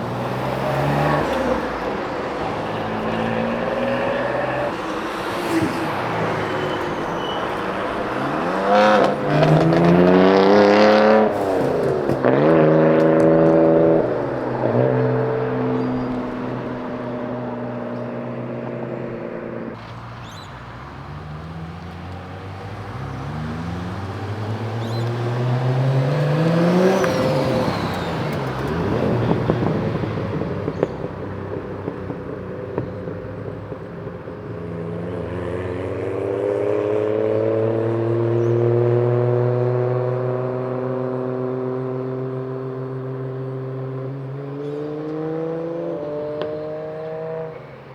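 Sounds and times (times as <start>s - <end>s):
car engine revving: 0.0s - 47.9s
car pulling away and passing: 0.0s - 47.9s.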